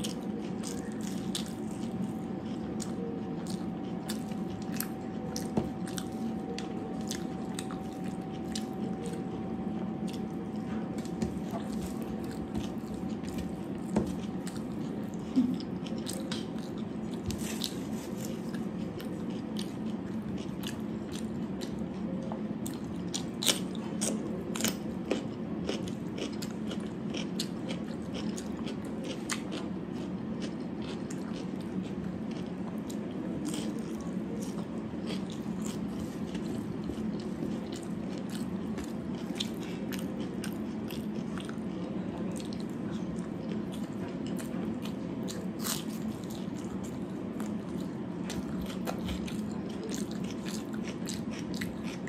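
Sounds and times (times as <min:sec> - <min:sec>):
low background hum: 0:00.0 - 0:52.0
person chewing with mouth clicks: 0:10.0 - 0:52.0.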